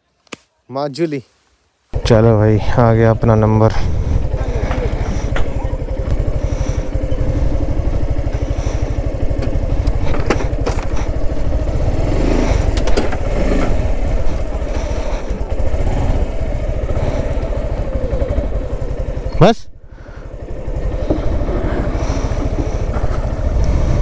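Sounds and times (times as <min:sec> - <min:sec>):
motorcycle engine idling: 0:02.0 - 0:24.0.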